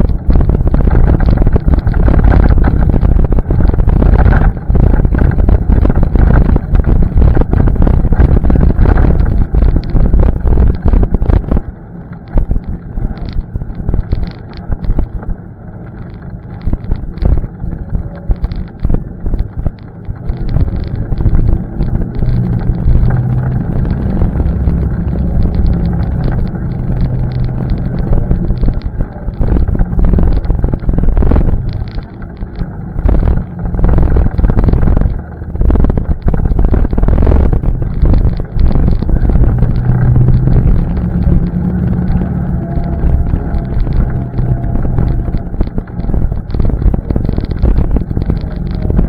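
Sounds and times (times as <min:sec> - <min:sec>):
atv engine under throttle: 0:00.0 - 0:49.0
wind noise on microphone: 0:00.0 - 0:49.0.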